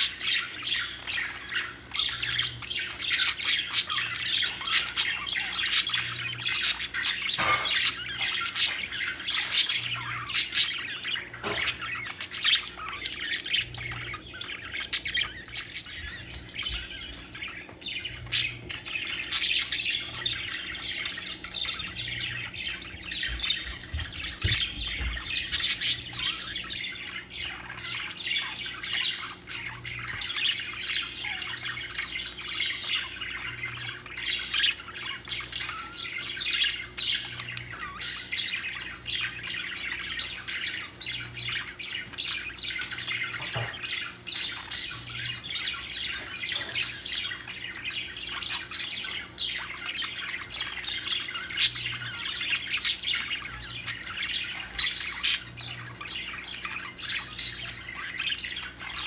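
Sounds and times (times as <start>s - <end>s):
budgerigars chirping and chattering: 0.0s - 59.0s.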